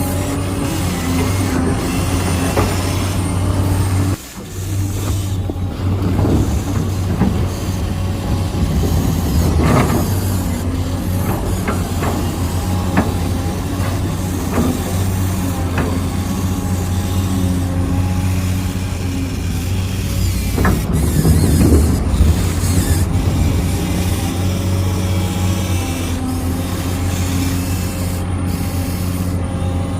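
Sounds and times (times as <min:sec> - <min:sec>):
toy motors and gears humming: 0:00.0 - 0:29.9.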